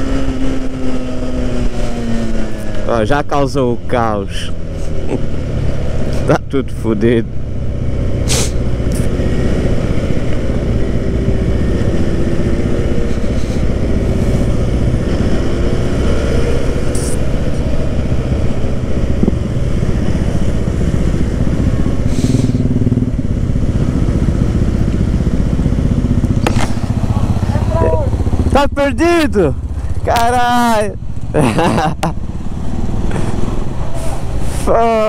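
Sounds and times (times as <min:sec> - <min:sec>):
motorcycle engine running: 0:00.0 - 0:35.0
other motorcycles riding nearby: 0:00.0 - 0:35.0.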